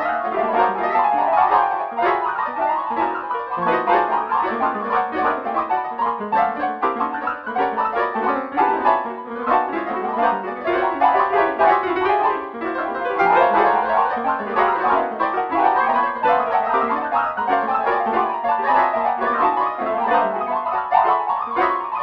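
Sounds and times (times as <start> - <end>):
midi piano music: 0.0 - 22.0.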